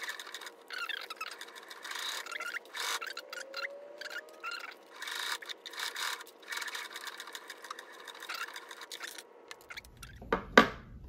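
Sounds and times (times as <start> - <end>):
sewing machine stitching: 0.0 - 9.2.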